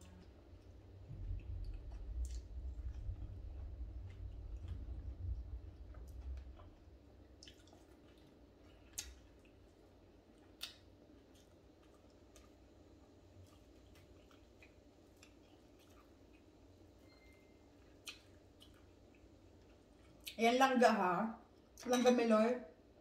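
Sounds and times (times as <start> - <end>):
chewing: 0.0 - 20.4.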